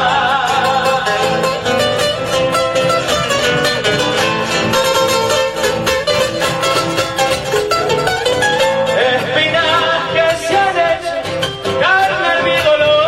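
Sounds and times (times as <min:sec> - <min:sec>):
acoustic guitar strumming: 0:00.0 - 0:13.0
bass drum beat: 0:00.0 - 0:13.0.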